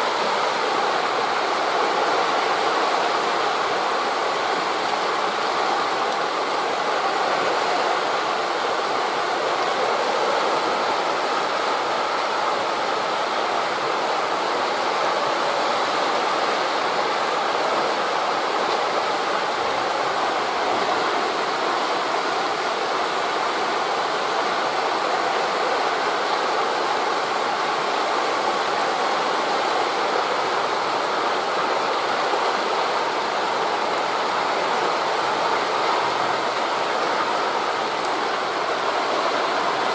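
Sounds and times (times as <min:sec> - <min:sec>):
wind through tree leaves: 0:00.0 - 0:39.9.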